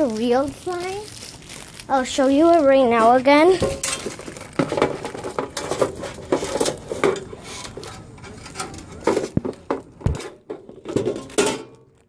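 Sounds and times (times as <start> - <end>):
objects being handled: 0.0 - 12.0.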